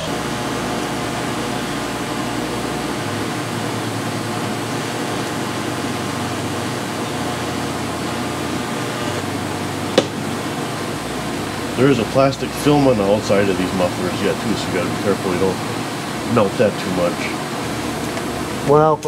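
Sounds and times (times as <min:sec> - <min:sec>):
fan whirring and humming: 0:00.0 - 0:19.0.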